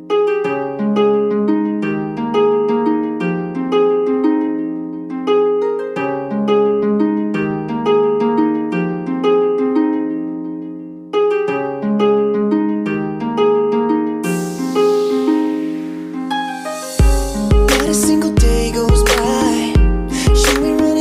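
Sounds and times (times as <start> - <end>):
harp plucked arpeggios: 0.0 - 21.0.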